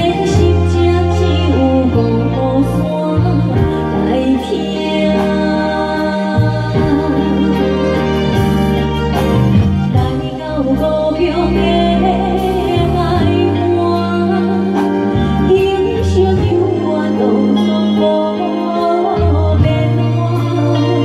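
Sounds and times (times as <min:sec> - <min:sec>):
bass: 0:00.0 - 0:21.0
held keyboard chords: 0:00.0 - 0:21.0
woman singing into a microphone: 0:00.0 - 0:21.0.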